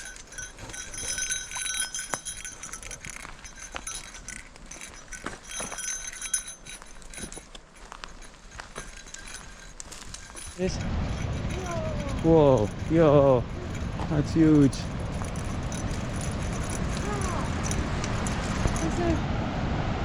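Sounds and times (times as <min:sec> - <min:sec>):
crunching footsteps: 0:00.0 - 0:19.2
light metallic jingling: 0:00.0 - 0:19.3.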